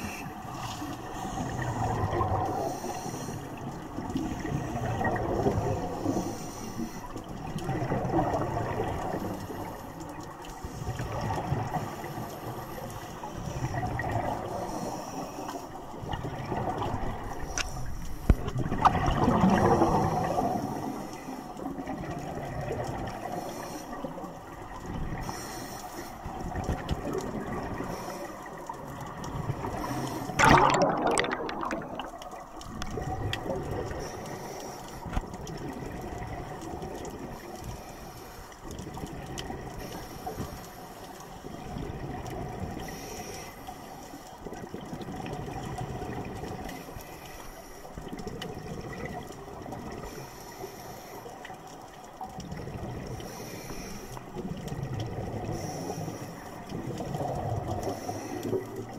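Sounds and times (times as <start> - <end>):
regulator bubbles gurgling: 0.0 - 58.9
steady water hiss: 0.0 - 58.9.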